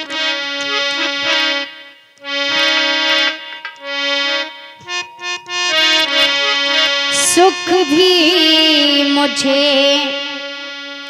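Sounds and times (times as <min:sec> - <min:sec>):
harmonium chords: 0:00.0 - 0:11.0.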